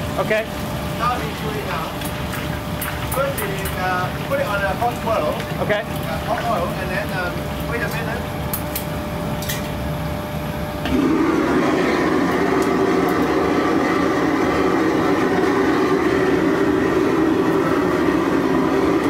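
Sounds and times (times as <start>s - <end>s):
gas burner roaring: 0.0s - 19.0s.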